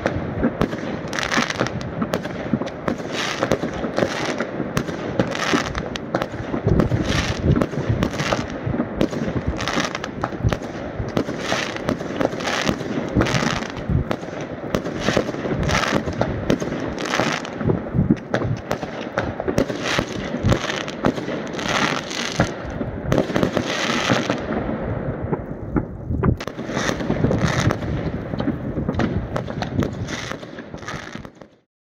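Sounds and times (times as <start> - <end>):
fireworks bangs and crackle: 0.0 - 31.7.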